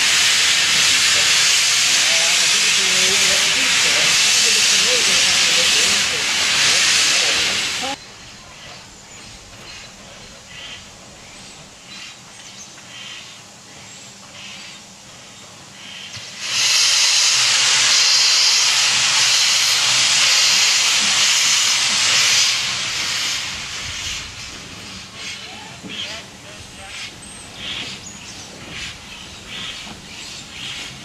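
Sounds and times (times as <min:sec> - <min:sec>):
faint steam puffs: 0:00.0 - 0:31.0
loud hiss of escaping steam: 0:00.0 - 0:31.0
steam locomotive hissing: 0:00.0 - 0:31.0.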